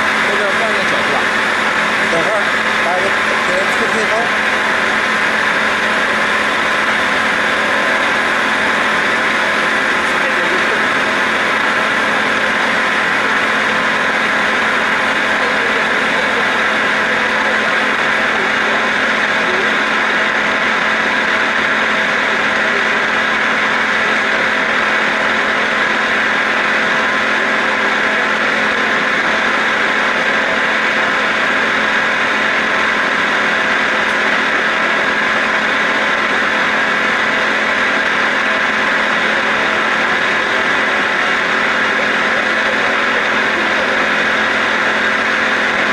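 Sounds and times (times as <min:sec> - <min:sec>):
lathe cutting metal: 0:00.0 - 0:45.9.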